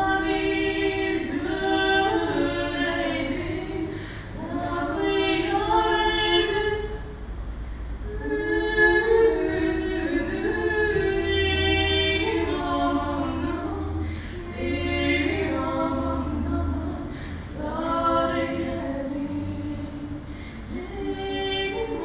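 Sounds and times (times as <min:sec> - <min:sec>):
women singing in harmony: 0:00.0 - 0:07.2, 0:08.1 - 0:22.0.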